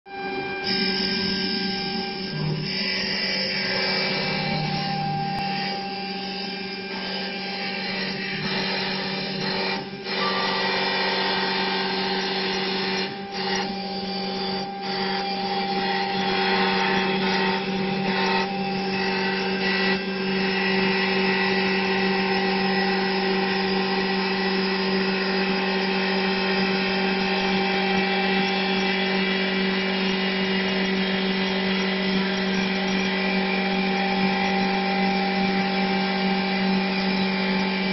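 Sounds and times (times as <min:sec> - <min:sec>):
lathe motor humming: 0:00.6 - 0:37.9
cutter scraping wood: 0:01.6 - 0:37.9.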